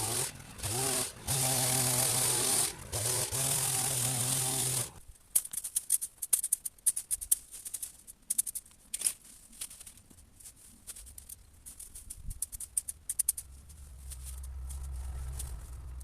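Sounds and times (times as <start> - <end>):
hedge branches clicking and rustling: 0.0 - 16.0.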